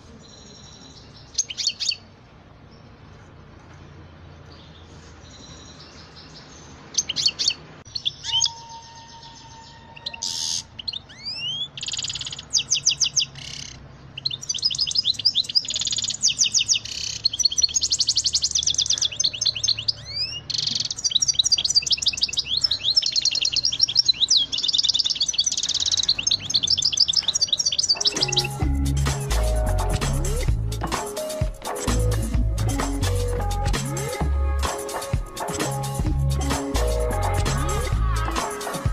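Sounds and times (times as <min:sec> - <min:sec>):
finch singing: 0:00.2 - 0:02.1, 0:04.5 - 0:34.2.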